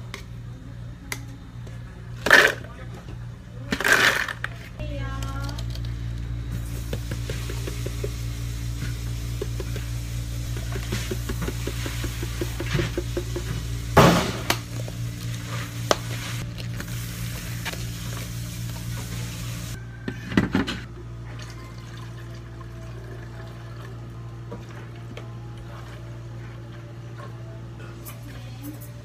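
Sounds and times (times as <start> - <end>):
low equipment hum: 0.0 - 29.0.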